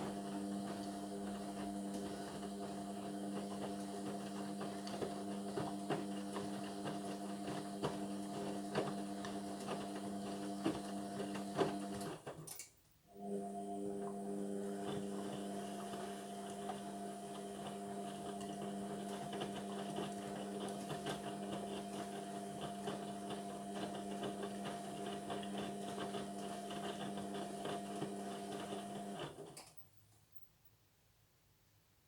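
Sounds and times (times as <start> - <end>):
washing machine motor hum: 0.0 - 12.4, 13.1 - 29.5.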